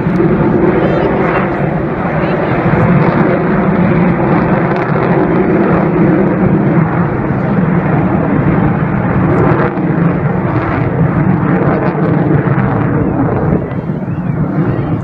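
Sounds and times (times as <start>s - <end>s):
aircraft engine in flight: 0.0s - 15.0s.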